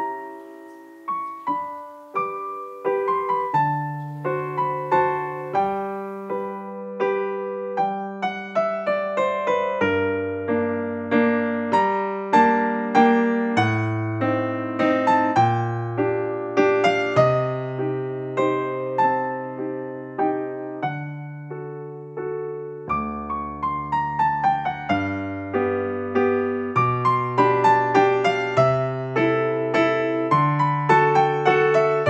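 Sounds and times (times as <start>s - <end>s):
gentle piano music: 0.0s - 32.0s.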